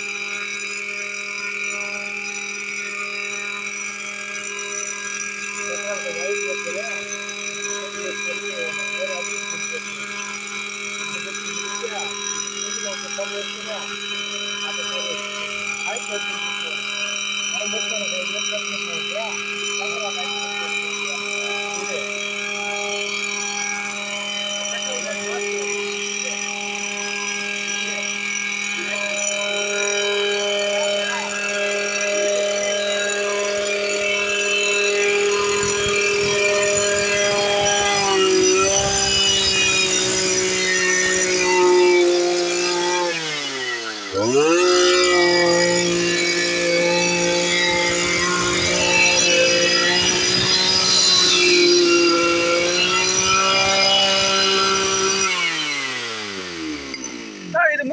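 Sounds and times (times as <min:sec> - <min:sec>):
two-stroke engine running: 0:00.0 - 0:57.9.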